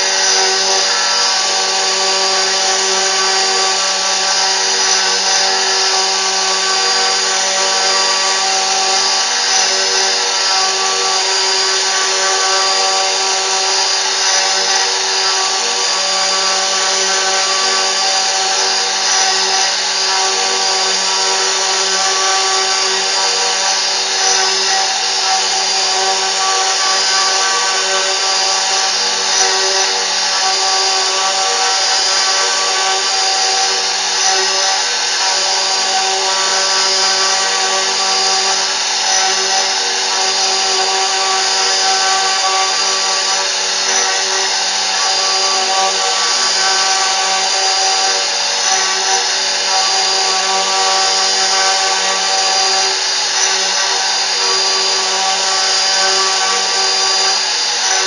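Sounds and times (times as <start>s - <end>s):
rough cutting noise: 0.0s - 58.0s
router spindle whine: 0.0s - 58.0s.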